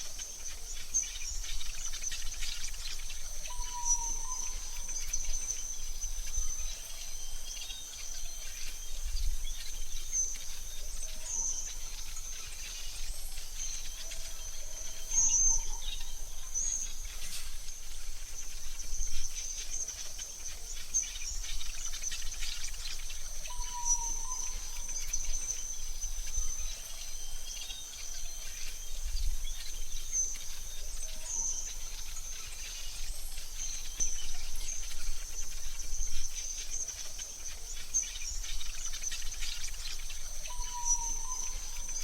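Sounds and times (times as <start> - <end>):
high-pitched insect trill: 0.0 - 42.0.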